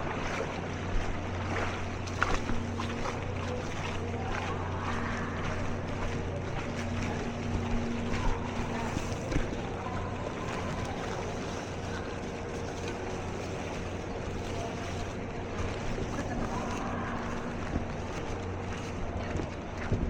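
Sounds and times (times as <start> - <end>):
water swishing: 0.0 - 20.0.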